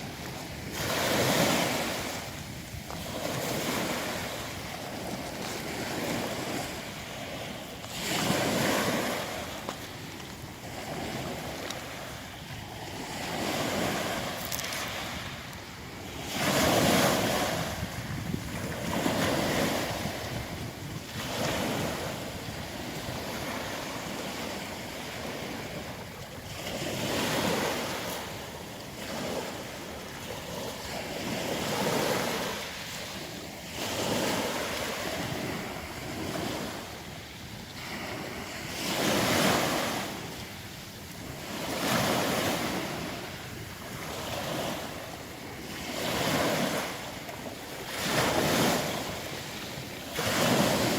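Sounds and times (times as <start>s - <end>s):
surf on a pebble beach: 0.0s - 50.9s.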